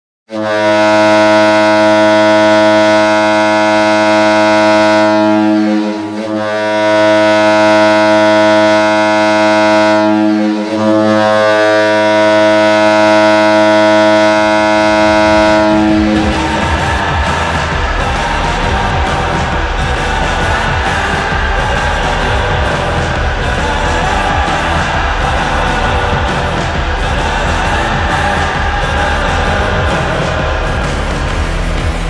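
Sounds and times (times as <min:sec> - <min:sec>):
hockey goal horn blasts: 0:00.3 - 0:31.3.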